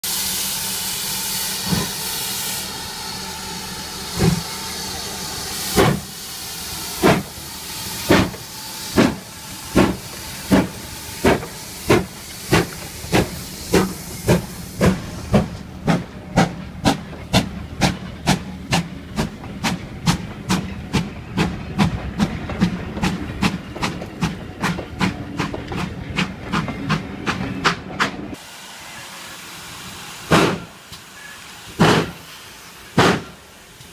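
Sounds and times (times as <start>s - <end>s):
steam hissing: 0.0s - 27.7s, 28.3s - 33.9s
steam locomotive chuffing: 0.0s - 33.9s.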